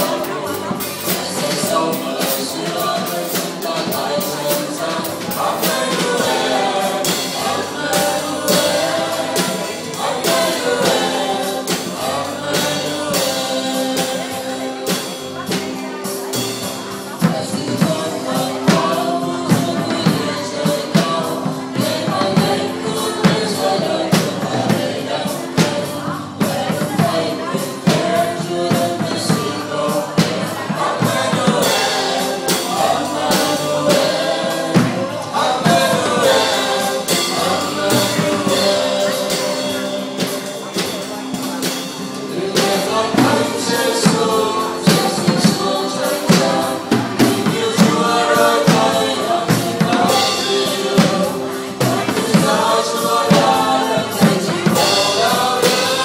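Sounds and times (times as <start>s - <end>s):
acoustic drum kit: 0.0s - 56.0s
group singing worship song: 0.0s - 56.0s.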